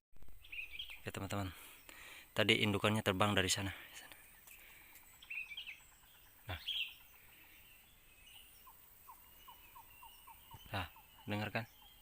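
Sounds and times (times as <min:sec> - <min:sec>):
high bird chirps: 0:00.4 - 0:03.4, 0:04.0 - 0:12.0.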